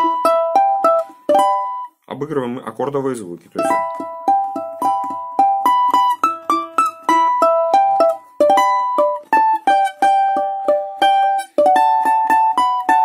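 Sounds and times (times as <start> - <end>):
balalaika plucked: 0.0 - 13.0.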